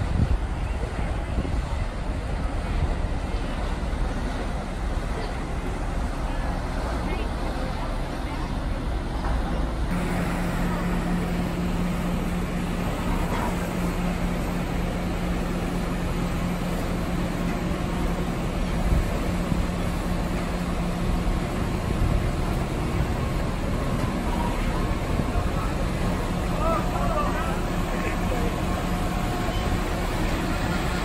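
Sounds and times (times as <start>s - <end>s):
paddle wheel churning water: 0.0s - 31.0s
low steady hum: 0.1s - 31.0s.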